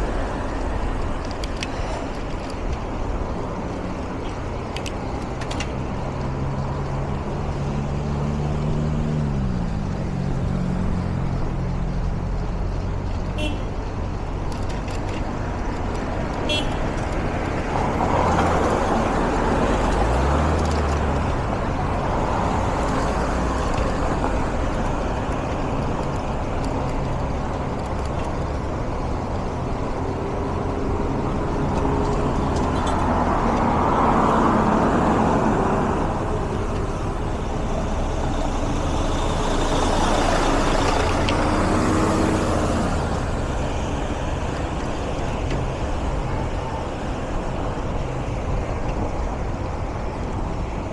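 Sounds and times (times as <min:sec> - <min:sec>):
car and truck engines running: 0:00.0 - 0:50.9
continuous background noise: 0:00.0 - 0:50.9
vehicles passing: 0:00.0 - 0:50.9.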